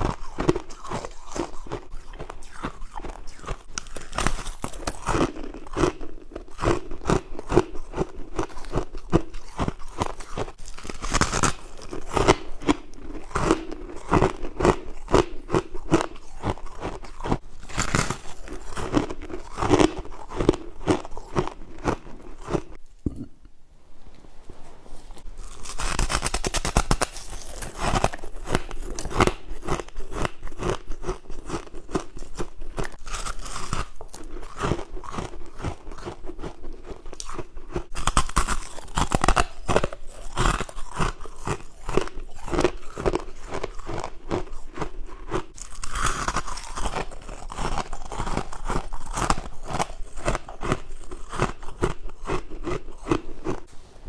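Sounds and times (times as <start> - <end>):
chewing ice crunches: 0.0 - 23.2, 25.4 - 53.7.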